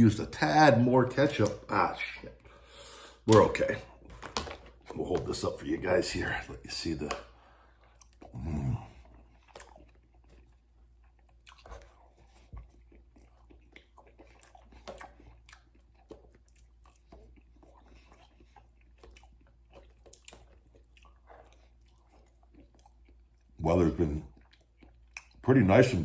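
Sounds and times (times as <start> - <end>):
man chewing food: 0.2 - 26.0.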